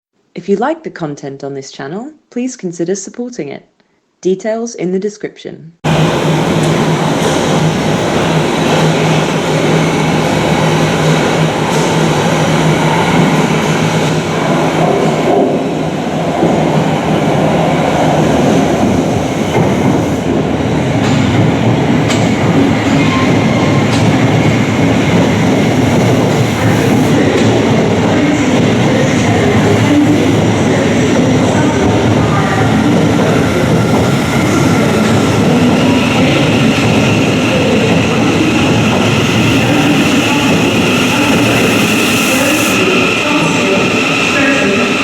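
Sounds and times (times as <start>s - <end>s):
electric train running: 5.9s - 45.0s.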